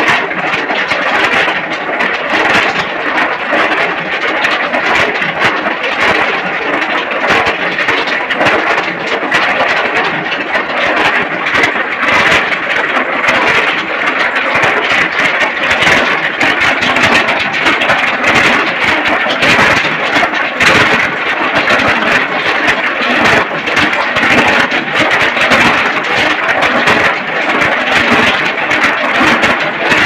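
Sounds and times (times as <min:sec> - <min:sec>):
mechanical clatter: 0:00.0 - 0:30.0.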